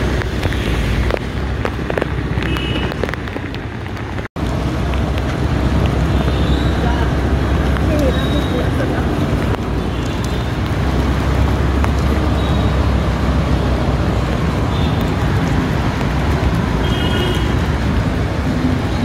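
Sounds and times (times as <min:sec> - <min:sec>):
heavy rain: 0:00.0 - 0:19.0
road traffic: 0:00.0 - 0:19.0.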